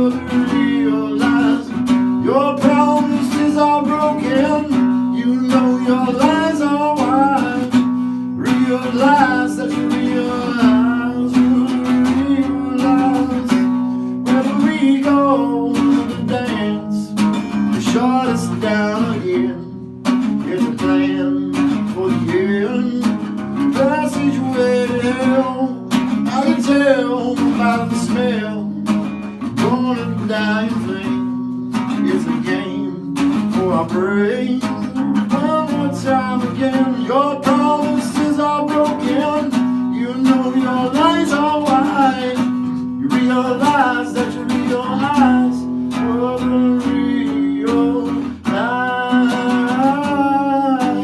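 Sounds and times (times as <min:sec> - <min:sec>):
person singing: 0:00.0 - 0:19.8, 0:20.4 - 0:51.0
acoustic guitar: 0:00.0 - 0:51.0.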